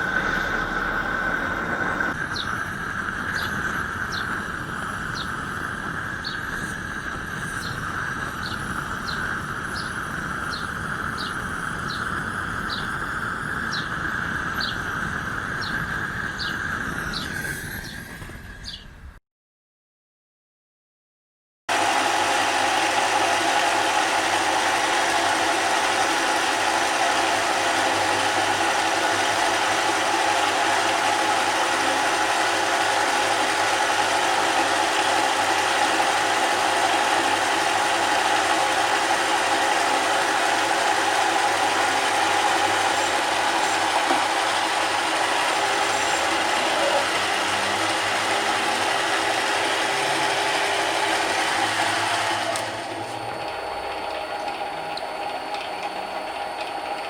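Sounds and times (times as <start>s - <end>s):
lathe gear whine: 0.0s - 18.7s, 21.7s - 57.0s.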